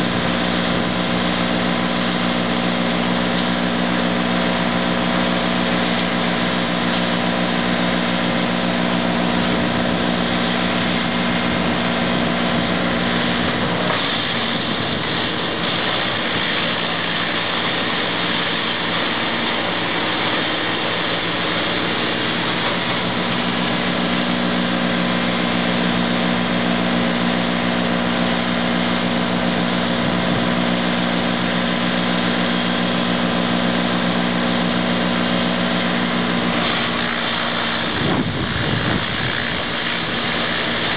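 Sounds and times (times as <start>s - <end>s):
tractor engine drone: 0.0s - 40.9s
wood chipper rushing noise: 0.0s - 40.9s.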